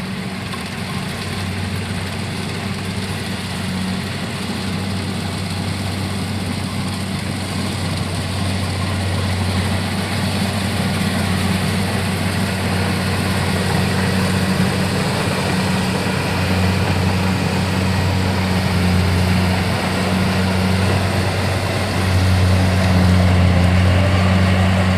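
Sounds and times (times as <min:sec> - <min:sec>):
farm machine engine running: 0:00.0 - 0:24.9.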